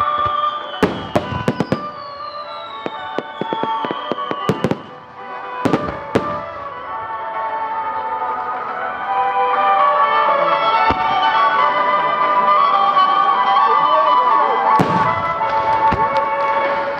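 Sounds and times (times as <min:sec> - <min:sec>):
background music: 0:00.0 - 0:16.9
fireworks bangs and crackles: 0:00.0 - 0:16.9.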